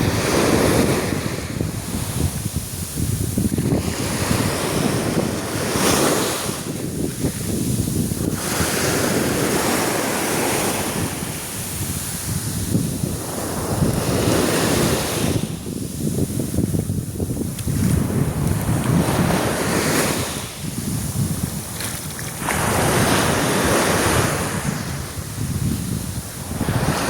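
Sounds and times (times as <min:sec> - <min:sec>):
sea surf washing onto beach: 0:00.0 - 0:27.0
wind rumbling on microphone: 0:00.0 - 0:27.0.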